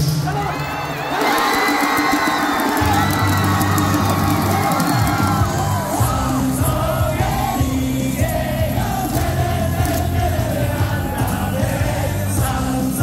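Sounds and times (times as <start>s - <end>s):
cheer song over loudspeakers: 0.0s - 13.0s
crowd singing and shouting: 0.8s - 13.0s.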